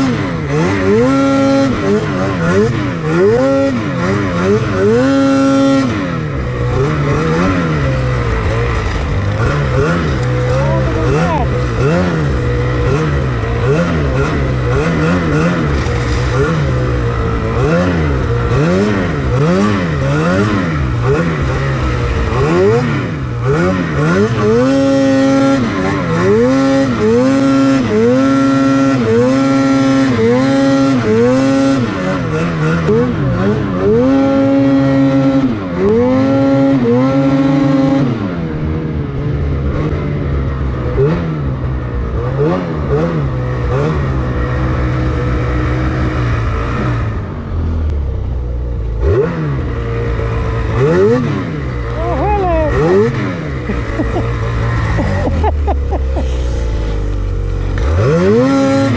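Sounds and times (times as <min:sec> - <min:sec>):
snowmobile engine revving: 0:00.0 - 0:48.0, 0:48.8 - 0:58.9.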